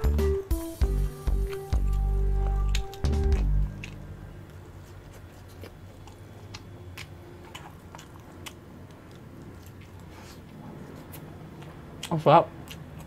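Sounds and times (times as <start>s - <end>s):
person chewing crunchy food: 0.9s - 13.0s.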